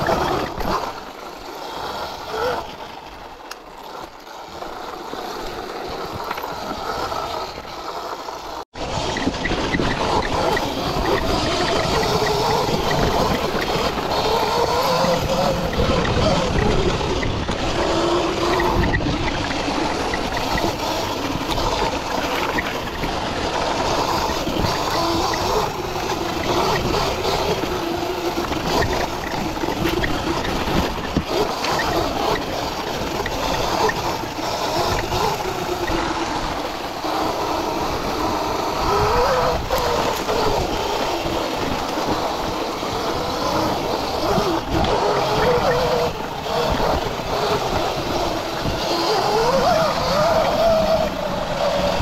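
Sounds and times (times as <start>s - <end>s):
electric motor whine: 0.0s - 52.0s
wind and road rush: 0.0s - 52.0s.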